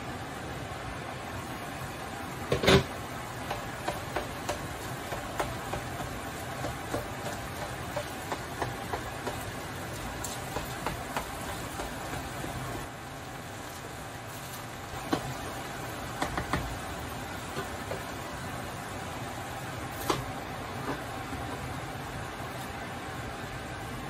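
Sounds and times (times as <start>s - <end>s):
potatoes sizzling in oil: 0.2s - 24.0s.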